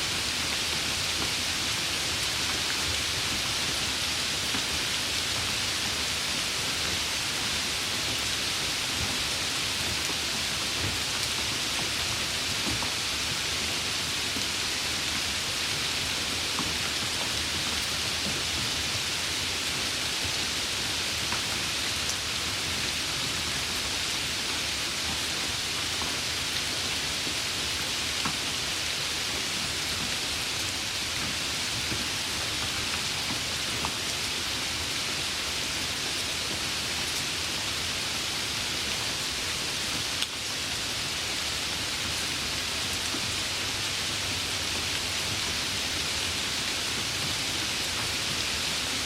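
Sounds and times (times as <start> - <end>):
steady rain hiss: 0.0 - 49.0.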